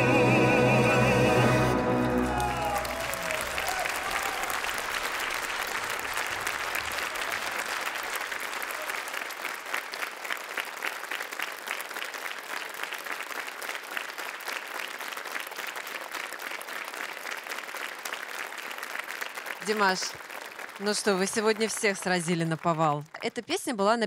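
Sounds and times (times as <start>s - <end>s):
audience clapping: 2.0s - 23.7s.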